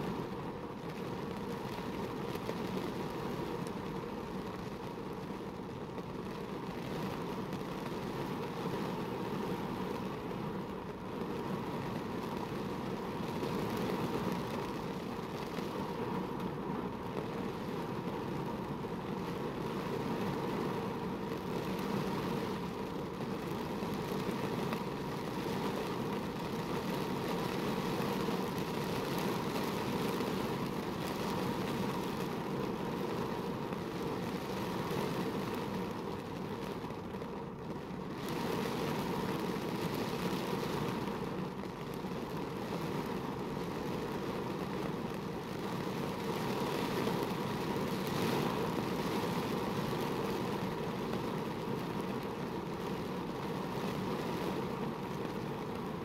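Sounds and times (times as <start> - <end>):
heavy rain on a car: 0.0 - 56.0.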